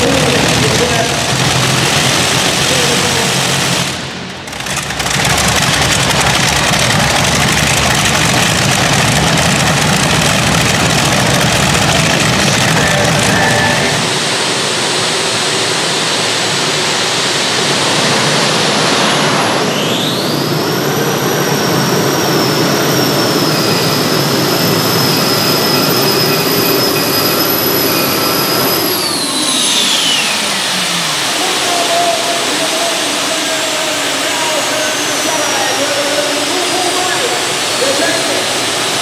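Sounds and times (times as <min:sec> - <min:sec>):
high whine: 0:00.0 - 0:39.0
pulling tractor engines at full power: 0:00.0 - 0:39.0.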